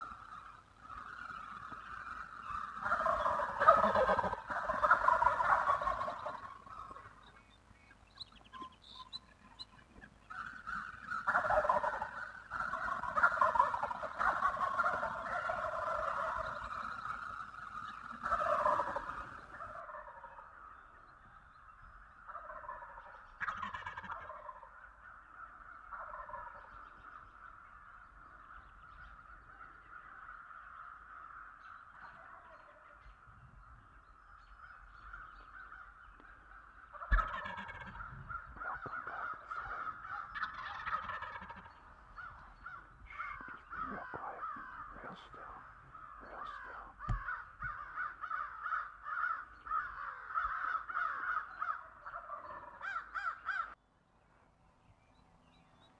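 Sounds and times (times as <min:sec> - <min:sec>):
flock of turkeys calling: 0:00.0 - 0:53.8
turkeys gobbling loudly: 0:00.0 - 0:53.8.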